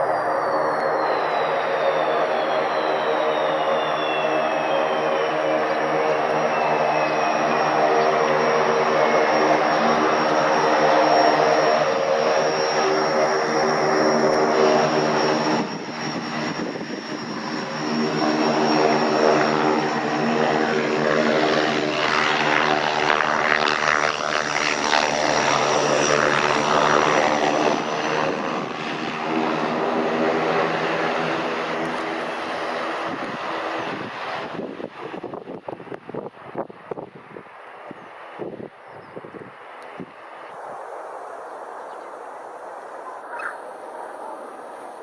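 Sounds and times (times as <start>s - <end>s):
high turbine whine: 0.0s - 45.0s
propeller drone: 0.0s - 45.0s.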